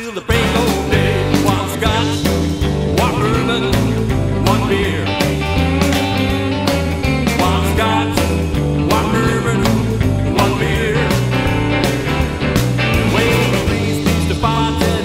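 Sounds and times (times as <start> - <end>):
rockabilly band playing: 0.0 - 15.0.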